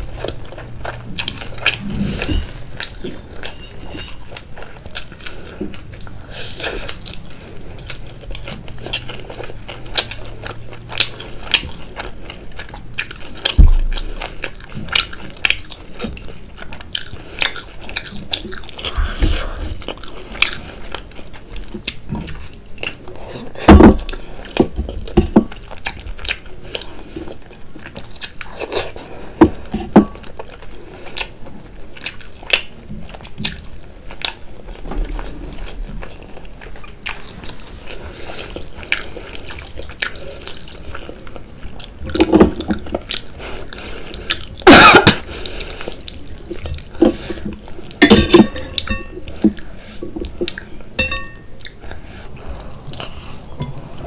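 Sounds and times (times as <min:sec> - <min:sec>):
person chewing noodles: 0:00.0 - 0:54.0.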